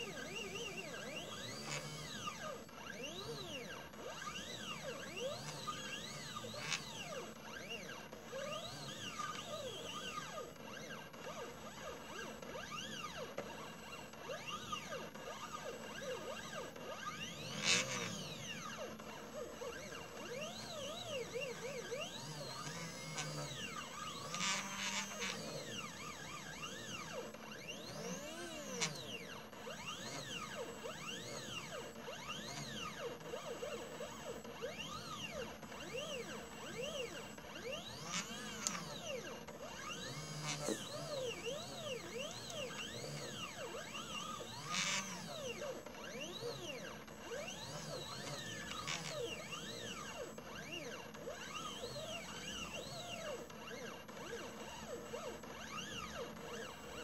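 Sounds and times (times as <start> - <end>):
stepper motors whining: 0.0 - 57.0.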